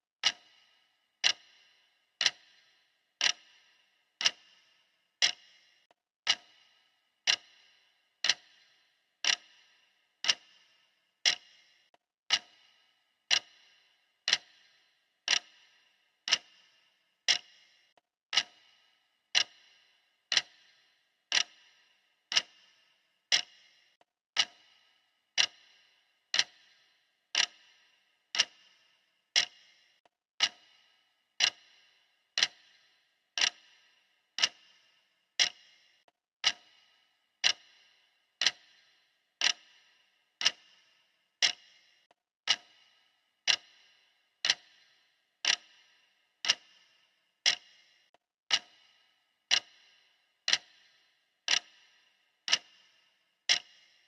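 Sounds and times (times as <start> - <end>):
clock ticking: 0.2 - 54.0.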